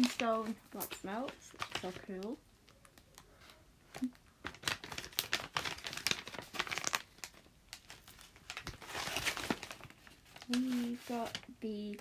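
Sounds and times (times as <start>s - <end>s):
tissue paper crinkling: 0.0s - 12.0s.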